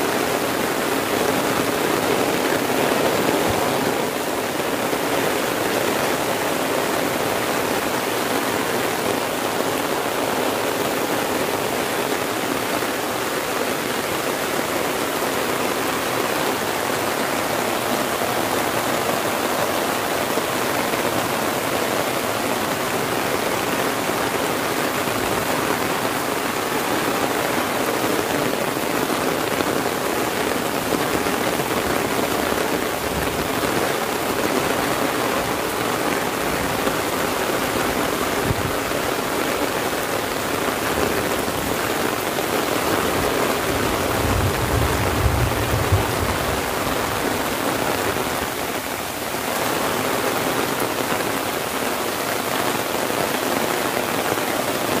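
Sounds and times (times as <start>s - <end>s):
heavy rain on an umbrella: 0.0s - 55.0s.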